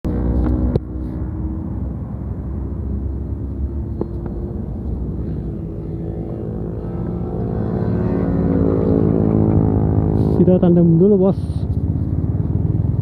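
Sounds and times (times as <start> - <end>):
motorcycle engine running: 0.1 - 13.0.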